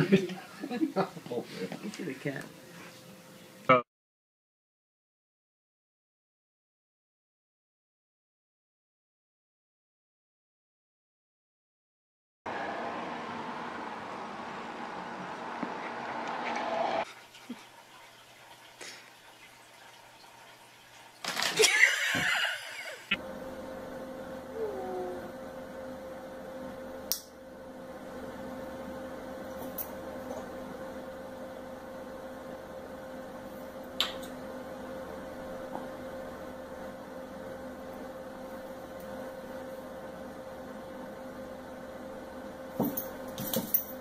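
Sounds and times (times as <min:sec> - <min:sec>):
electrical hum: 0:00.0 - 0:03.8, 0:12.5 - 0:44.0.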